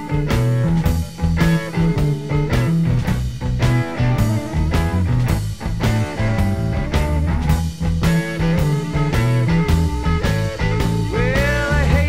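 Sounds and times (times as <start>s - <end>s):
blues-rock music: 0.0s - 12.0s.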